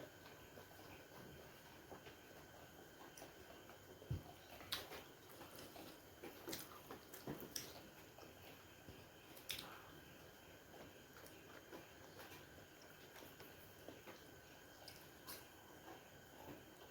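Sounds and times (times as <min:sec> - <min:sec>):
person chewing food: 0:00.2 - 0:16.9.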